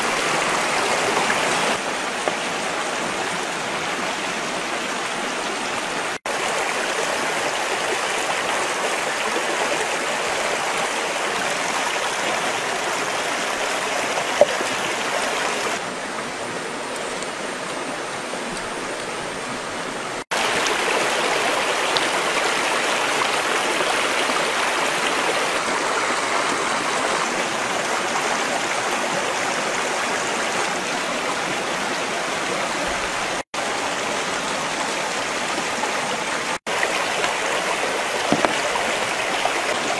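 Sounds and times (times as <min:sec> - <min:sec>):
flowing stream rushing: 0:00.0 - 0:39.9.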